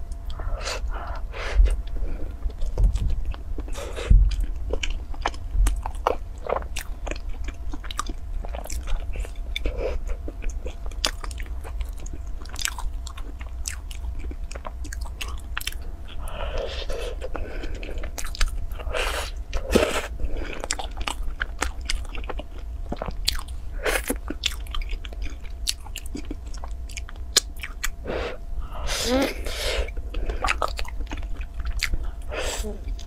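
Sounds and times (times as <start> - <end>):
person chewing pastry: 0.0 - 33.0.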